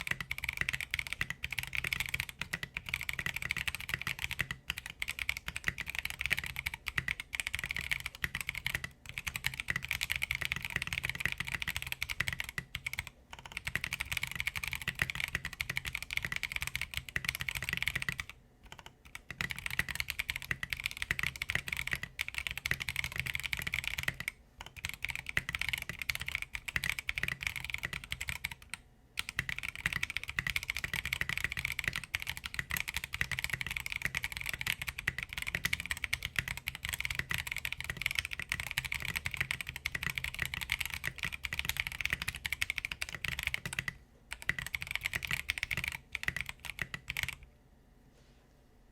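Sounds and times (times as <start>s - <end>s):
mechanical keyboard typing: 0.0s - 47.4s.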